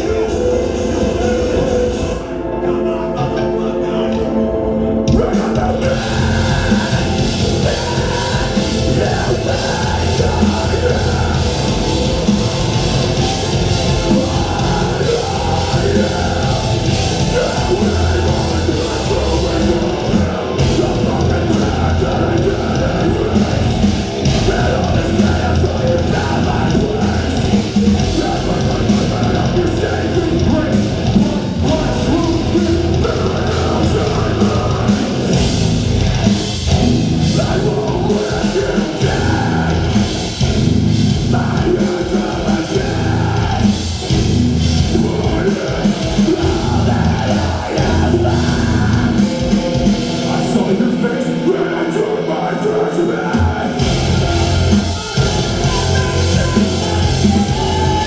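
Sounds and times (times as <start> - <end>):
bass guitar: 0.0 - 58.0
distorted electric guitars: 0.0 - 58.0
drum kit: 0.0 - 58.0
sustained synth-like intro: 0.0 - 58.0
vocalist singing: 0.0 - 58.0.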